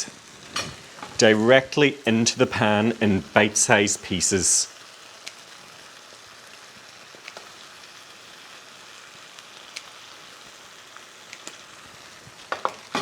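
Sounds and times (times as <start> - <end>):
pan sizzling: 0.0 - 13.0.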